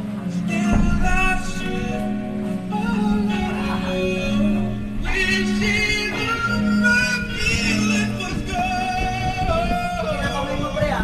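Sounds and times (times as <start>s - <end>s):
music with singing: 0.0s - 11.0s.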